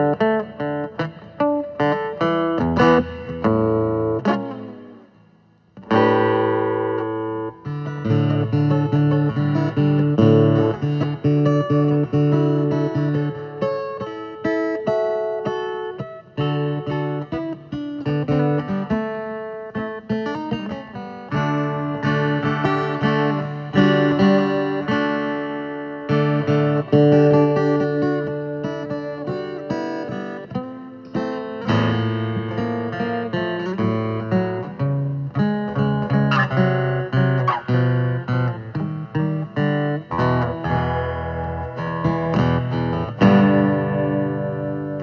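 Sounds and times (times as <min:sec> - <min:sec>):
plucked and strummed guitar: 0:00.0 - 0:45.0.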